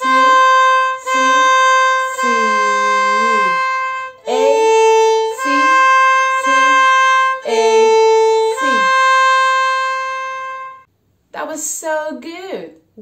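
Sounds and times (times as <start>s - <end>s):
violin playing bowed notes: 0.0s - 10.9s.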